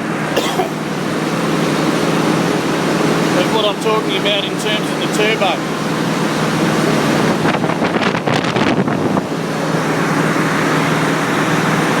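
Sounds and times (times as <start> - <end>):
ship machinery and ventilation: 0.0 - 12.0.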